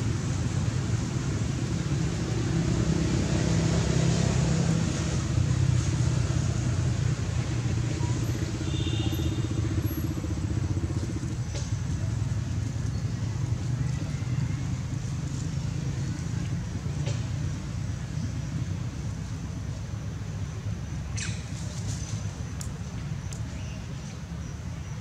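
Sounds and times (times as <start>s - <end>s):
engine running: 0.0s - 23.6s.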